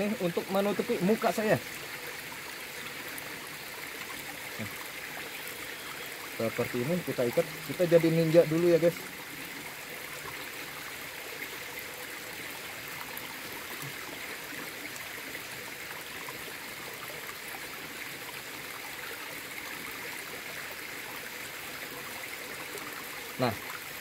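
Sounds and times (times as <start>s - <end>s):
small river rushing and trickling: 0.0s - 24.0s.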